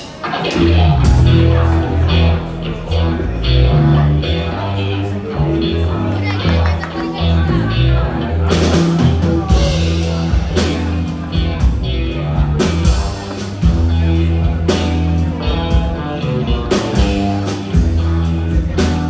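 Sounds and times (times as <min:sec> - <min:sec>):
electric guitar: 0:00.0 - 0:19.0
live rock band playing: 0:00.0 - 0:19.0.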